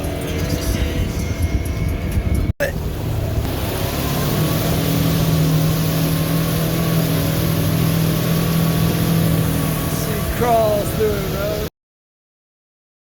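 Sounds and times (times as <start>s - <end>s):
vehicle engine running: 0.0s - 11.7s.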